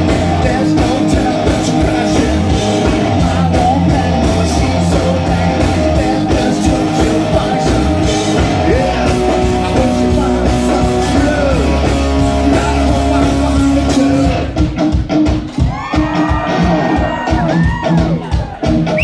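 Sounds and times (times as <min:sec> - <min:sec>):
rock band playing loud: 0:00.0 - 0:19.0.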